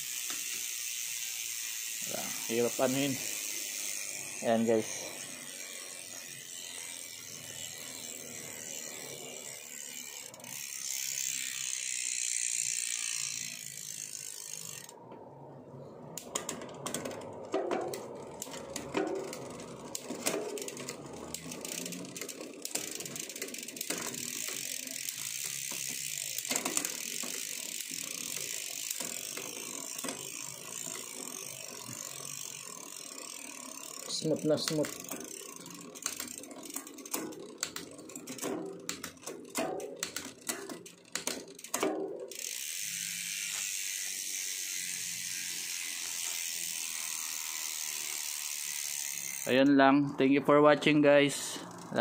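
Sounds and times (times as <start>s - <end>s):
hub ratchet ticking: 0.0s - 15.4s, 16.0s - 52.0s
bike chain running over cassette: 0.0s - 52.0s.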